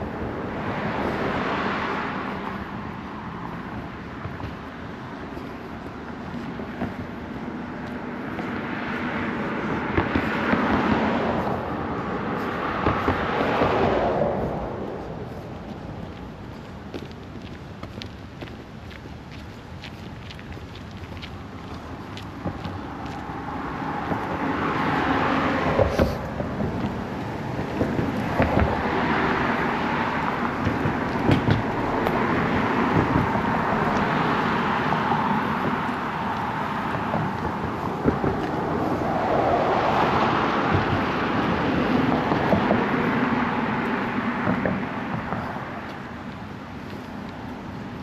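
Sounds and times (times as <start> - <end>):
vehicles passing: 0.0 - 48.0.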